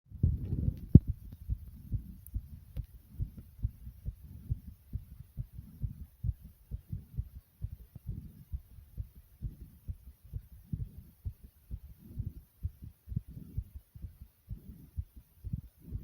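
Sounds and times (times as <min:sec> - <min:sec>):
heartbeat thumps: 0:00.1 - 0:16.0.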